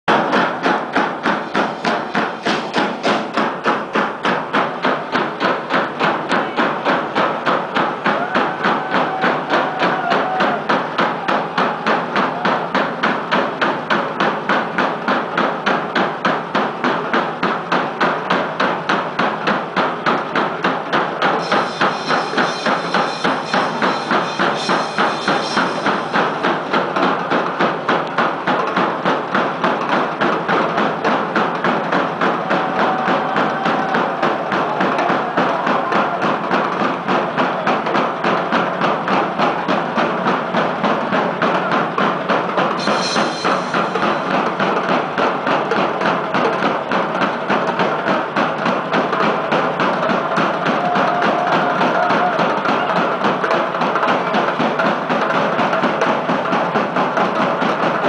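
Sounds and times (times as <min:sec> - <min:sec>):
drum kits playing fast beat: 0:00.1 - 0:58.0.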